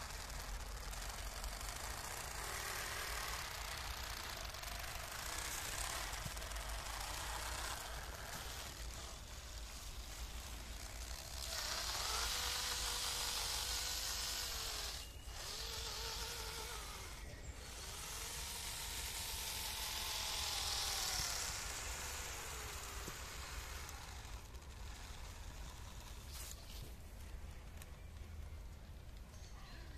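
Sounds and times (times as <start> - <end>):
electric motor drivetrain whining: 0.0 - 26.8.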